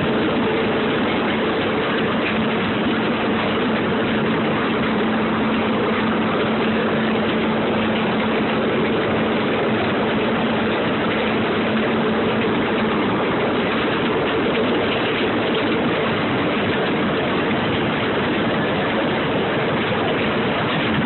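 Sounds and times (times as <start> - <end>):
constant hum: 0.0 - 21.0
small train engine drone: 0.0 - 21.0
train rolling noise: 0.0 - 21.0.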